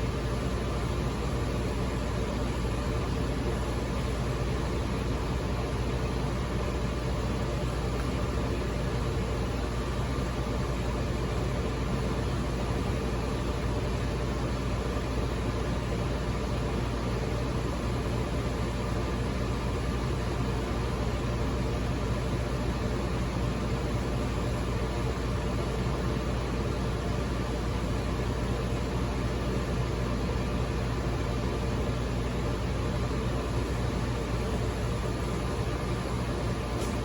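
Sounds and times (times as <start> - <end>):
fan noise: 0.0 - 37.0
steady machine hum: 0.0 - 37.0.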